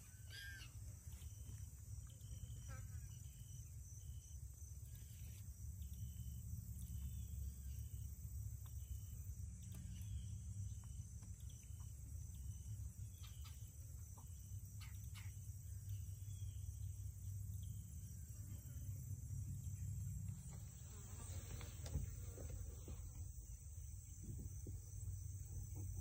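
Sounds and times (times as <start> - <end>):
cricket chirps: 0.0 - 26.0
insect drone: 0.0 - 26.0.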